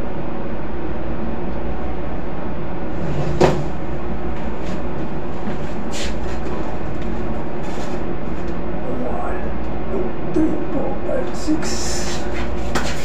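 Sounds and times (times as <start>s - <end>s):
ship machinery rumble: 0.0s - 13.0s.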